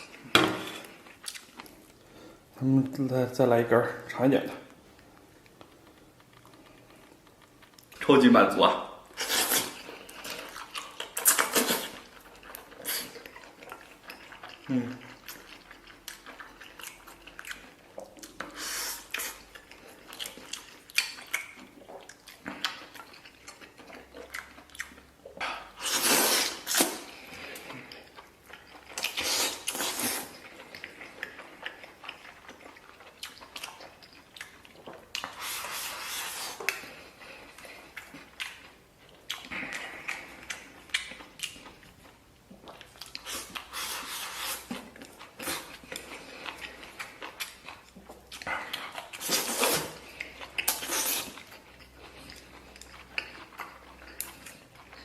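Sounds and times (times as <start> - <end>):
close-up wet chewing: 0.0 - 2.5, 4.0 - 8.4, 9.0 - 55.0.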